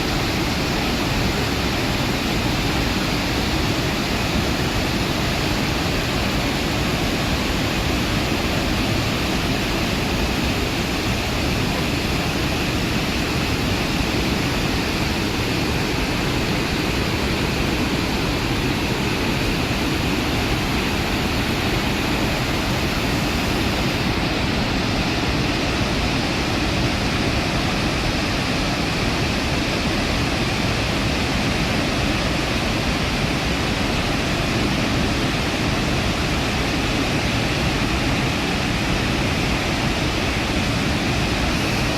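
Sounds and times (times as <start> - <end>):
waterfall thundering: 0.0 - 41.9.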